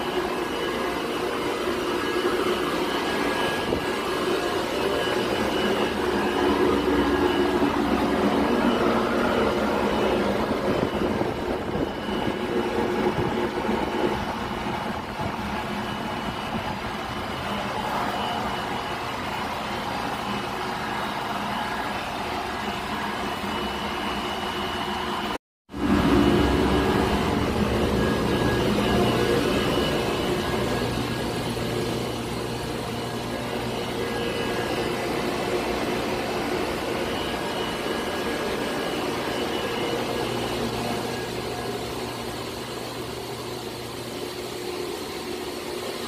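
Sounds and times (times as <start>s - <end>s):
machinery room drone: 0.0s - 46.0s.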